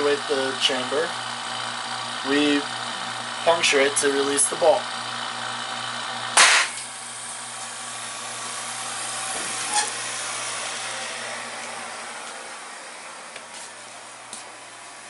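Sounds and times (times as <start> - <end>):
vacuum pump hiss and hum: 0.0 - 15.0.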